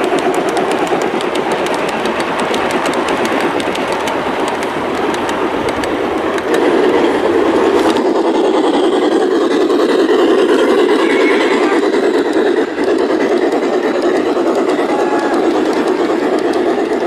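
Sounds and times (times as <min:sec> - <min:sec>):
model train running hum: 0:00.0 - 0:17.0
model train wheels clicking: 0:00.0 - 0:17.0.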